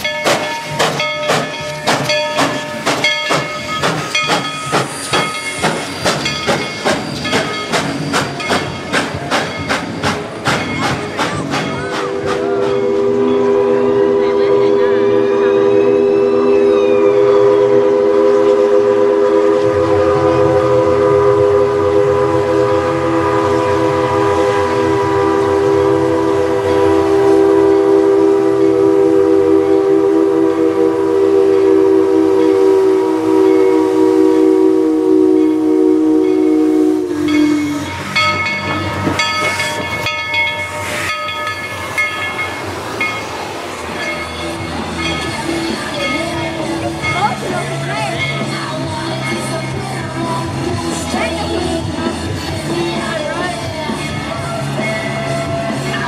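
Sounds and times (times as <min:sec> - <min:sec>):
steam hissing: 0:00.0 - 0:56.0
steam locomotive chime whistle: 0:00.0 - 0:56.0.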